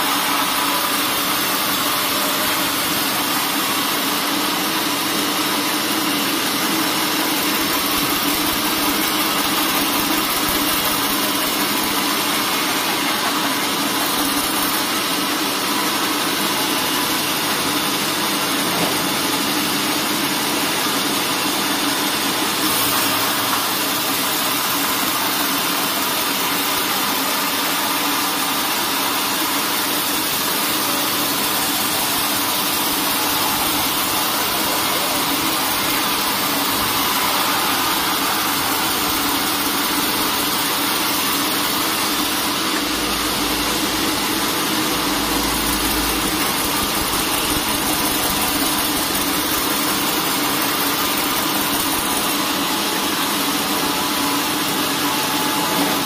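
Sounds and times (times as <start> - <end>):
band saw cutting log: 0.0 - 19.4, 22.6 - 56.0.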